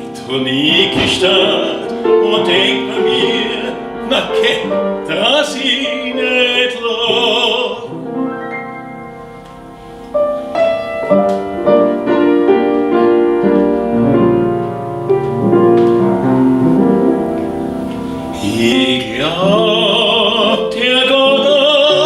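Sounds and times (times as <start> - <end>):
instrumental song accompaniment: 0.0 - 22.0.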